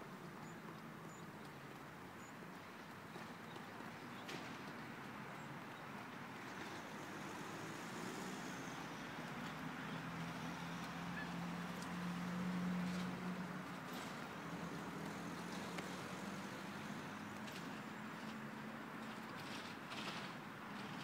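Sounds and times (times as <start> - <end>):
outdoor noise: 0.0 - 21.0
vehicle engine hum: 0.0 - 21.0.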